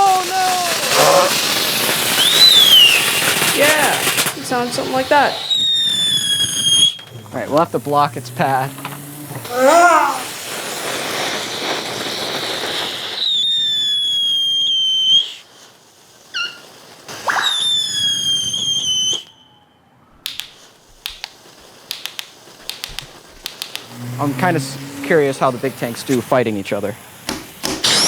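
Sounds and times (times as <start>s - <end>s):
firework spraying hiss: 0.0s - 19.3s, 20.2s - 28.0s
firework crackling pops: 0.0s - 19.4s, 20.2s - 28.0s
firework high whistles: 0.0s - 28.0s.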